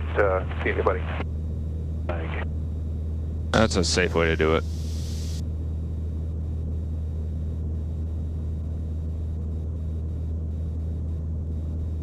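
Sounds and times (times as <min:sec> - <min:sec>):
aircraft engine droning in cockpit: 0:00.0 - 0:12.0.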